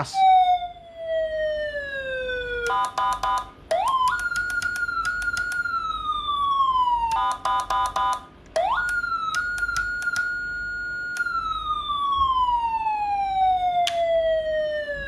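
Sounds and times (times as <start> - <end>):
electronic siren wailing: 0.0 - 15.0.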